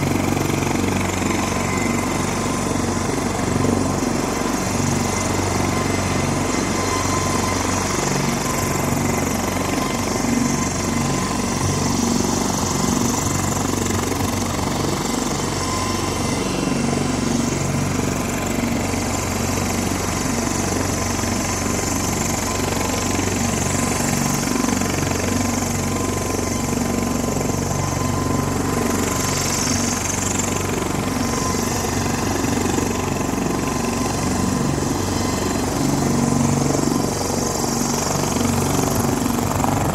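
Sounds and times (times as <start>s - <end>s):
helicopter engine and rotor running: 0.0s - 39.9s.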